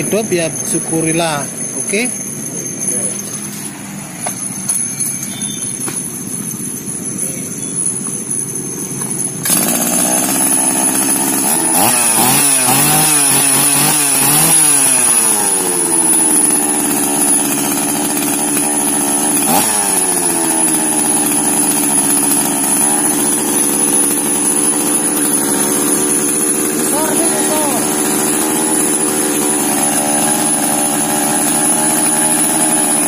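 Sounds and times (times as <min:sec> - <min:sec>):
chainsaw engine revving and idling: 0:00.0 - 0:33.0.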